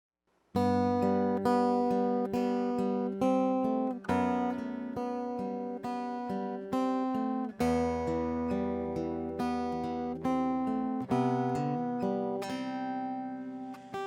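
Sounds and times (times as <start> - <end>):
acoustic guitar chords: 0.6 - 14.0.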